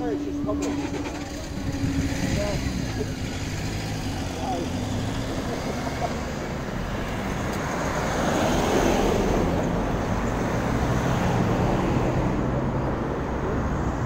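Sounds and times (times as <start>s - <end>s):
cars driving past: 0.0s - 14.0s
low engine hum: 0.0s - 14.0s.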